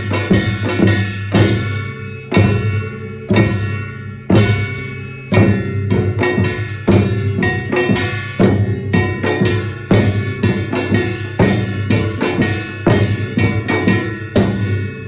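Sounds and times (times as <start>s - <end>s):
drums: 0.0s - 15.0s
percussion ensemble playing: 0.0s - 15.0s.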